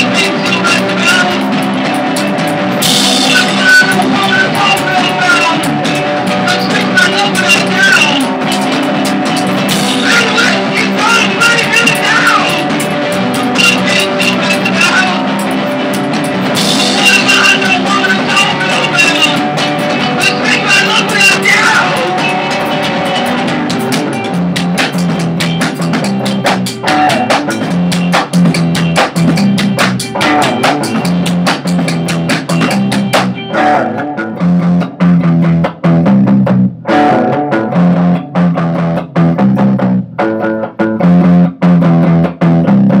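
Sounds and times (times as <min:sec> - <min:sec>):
drum kit: 0:00.0 - 0:43.0
guitar: 0:00.0 - 0:43.0.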